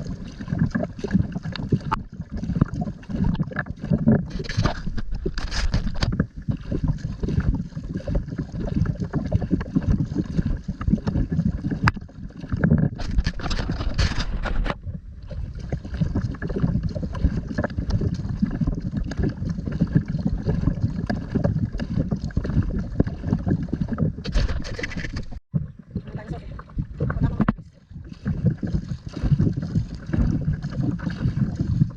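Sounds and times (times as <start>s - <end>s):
water sounds around kayak: 0.0s - 31.9s.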